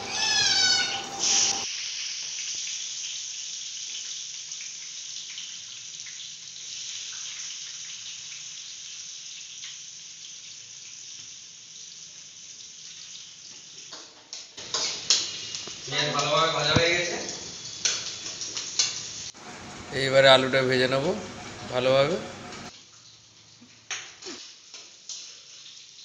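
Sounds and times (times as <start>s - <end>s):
onions sizzling in hot oil: 0.0s - 19.9s, 22.7s - 26.0s.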